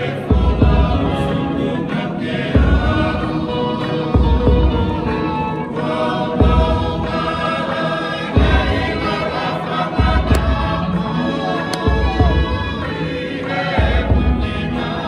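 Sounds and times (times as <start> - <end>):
group singing in harmony: 0.0 - 15.0.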